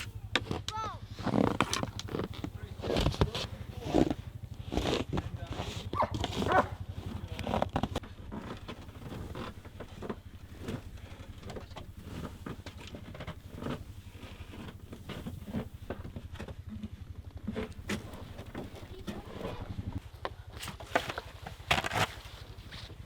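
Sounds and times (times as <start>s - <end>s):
crunches and knocks: 0.0s - 20.0s
engine running: 0.0s - 23.0s.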